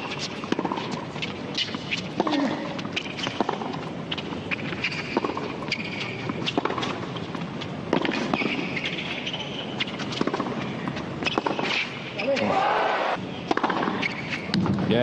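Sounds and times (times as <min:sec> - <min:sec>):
sneakers squeaking: 0:00.0 - 0:14.6
racquets striking tennis ball: 0:00.0 - 0:14.8.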